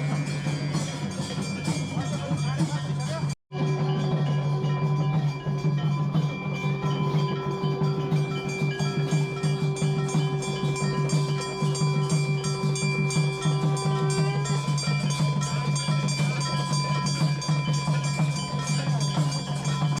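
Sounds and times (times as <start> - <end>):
fast percussion strikes: 0.0 - 20.0
ringing bell-like tones: 0.0 - 20.0.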